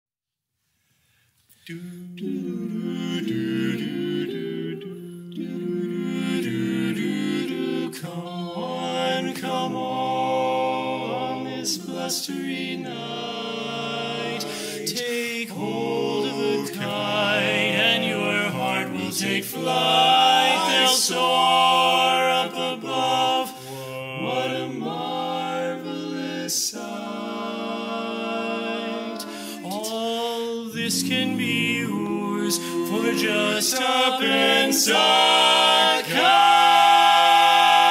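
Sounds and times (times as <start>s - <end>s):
male quartet singing a cappella: 1.6s - 37.9s.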